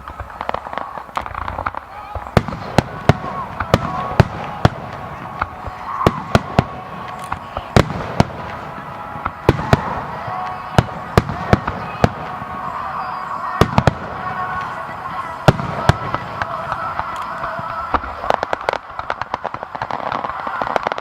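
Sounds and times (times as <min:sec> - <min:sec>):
fireworks bangs: 0:00.0 - 0:21.0
steady background din: 0:00.0 - 0:21.0.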